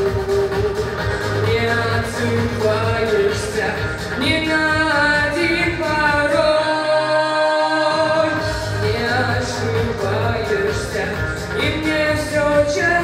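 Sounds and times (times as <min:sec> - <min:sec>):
pop backing track: 0:00.0 - 0:13.0
boy singing into microphone: 0:01.4 - 0:13.0.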